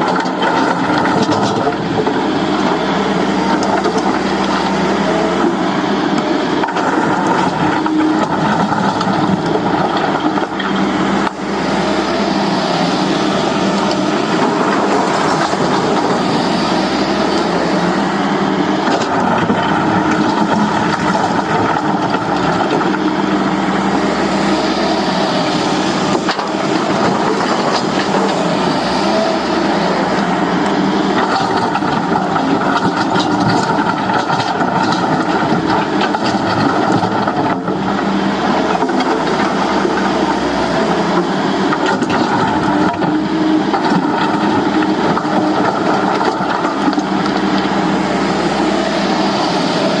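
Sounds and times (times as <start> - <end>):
excavator diesel engine under load: 0.0 - 50.0.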